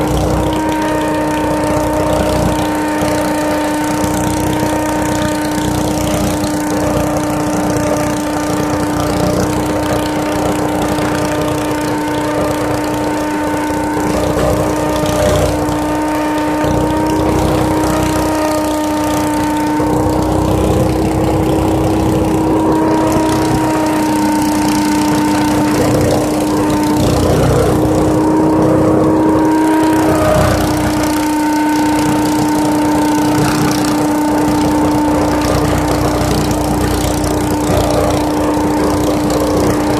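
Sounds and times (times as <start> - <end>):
leaf vacuum running: 0.0 - 39.9.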